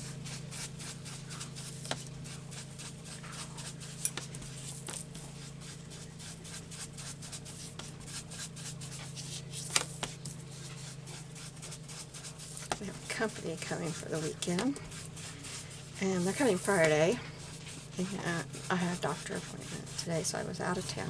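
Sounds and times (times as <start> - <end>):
ink pad rubbing paper: 0.0 - 21.0
steady low hum: 0.0 - 21.0.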